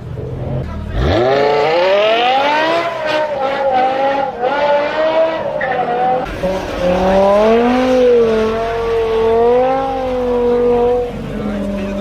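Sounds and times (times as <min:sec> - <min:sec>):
car engine accelerating hard: 0:00.2 - 0:12.0.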